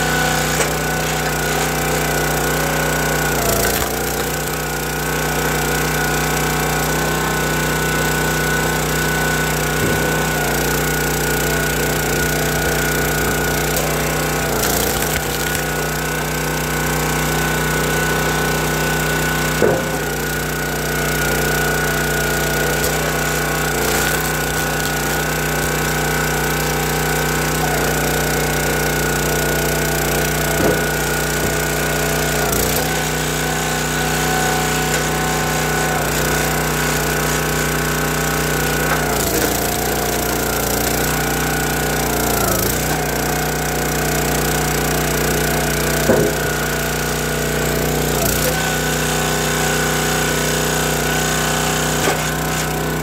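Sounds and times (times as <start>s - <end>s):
log splitter engine running: 0.0s - 53.0s.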